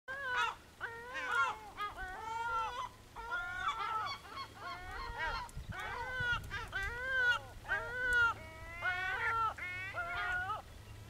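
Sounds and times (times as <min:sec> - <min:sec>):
gulls calling: 0:00.1 - 0:11.0.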